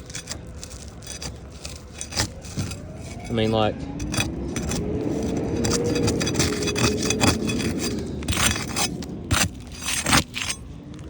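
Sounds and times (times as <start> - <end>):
metal bar scraping shingles: 0.0 - 11.0.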